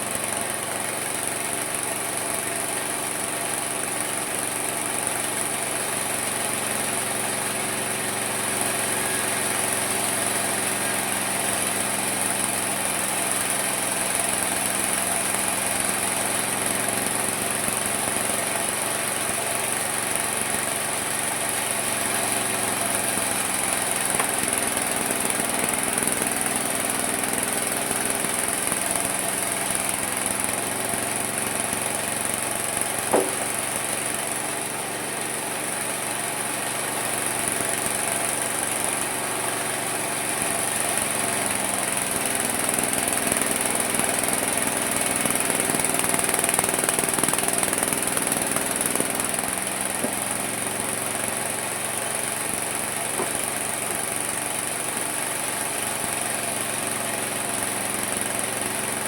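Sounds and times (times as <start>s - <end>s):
sawmill motor hum with whine: 0.0s - 59.0s.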